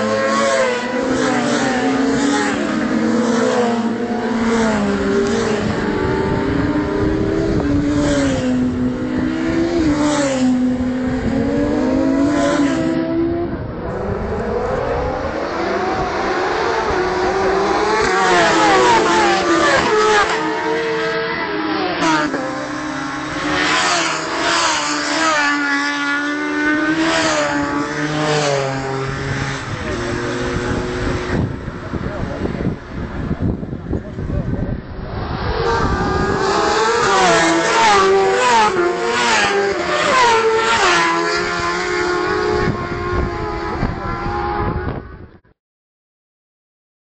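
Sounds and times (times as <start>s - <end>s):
racing motorcycles accelerating: 0.0s - 45.3s.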